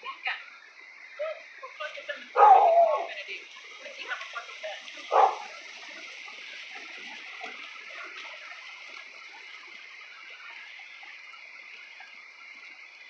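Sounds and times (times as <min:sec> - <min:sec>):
high-pitched night ambience hiss: 0:00.0 - 0:13.0.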